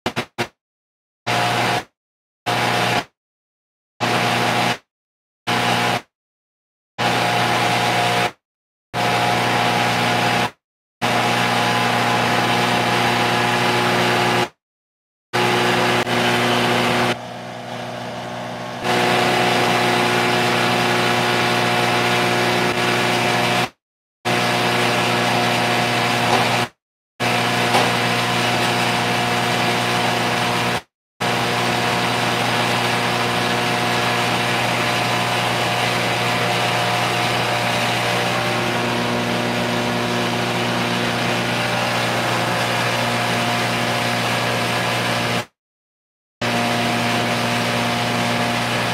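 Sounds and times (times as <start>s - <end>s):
grinding machine running: 5.5s - 6.0s, 7.0s - 8.3s, 9.0s - 10.4s, 11.0s - 14.6s, 15.4s - 45.5s, 46.4s - 48.9s.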